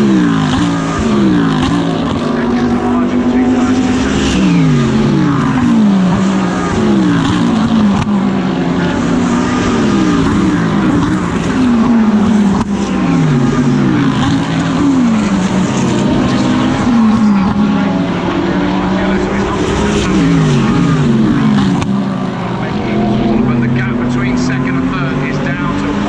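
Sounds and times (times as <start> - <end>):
race car engine through gears: 0.0 - 26.0.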